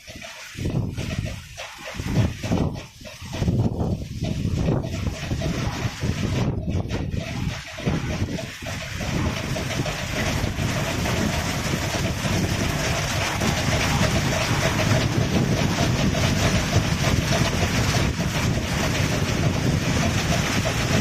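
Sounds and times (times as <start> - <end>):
car wash machine rushing: 0.0 - 21.0.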